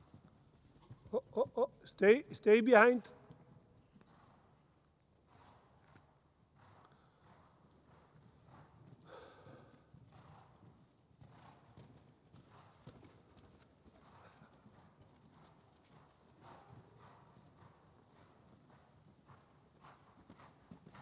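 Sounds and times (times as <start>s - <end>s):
faint hoofbeats on sand: 3.3s - 21.0s.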